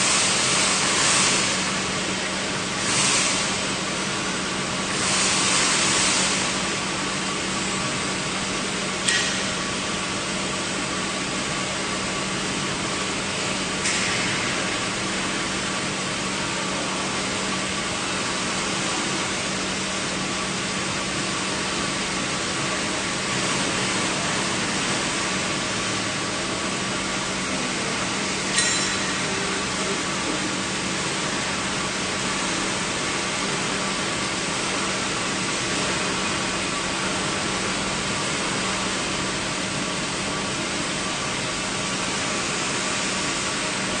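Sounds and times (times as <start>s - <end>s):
polishing machine hiss and hum: 0.0s - 44.0s.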